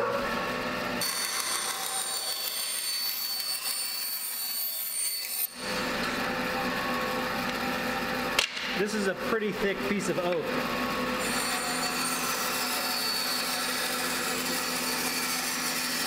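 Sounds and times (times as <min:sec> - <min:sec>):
bandsaw cutting plywood: 0:01.0 - 0:08.9, 0:09.8 - 0:16.0.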